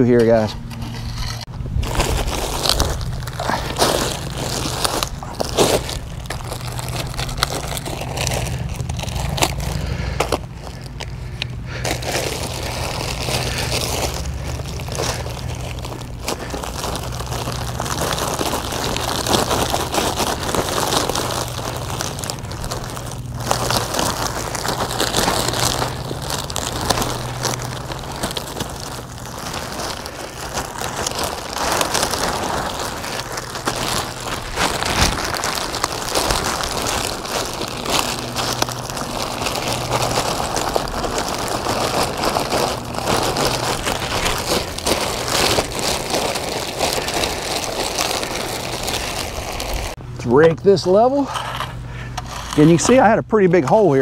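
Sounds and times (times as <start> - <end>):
plastic bag crinkling: 0.0 - 50.0, 50.7 - 54.0
low steady hum: 0.0 - 54.0
asphalt mix pouring from bag: 0.4 - 50.0.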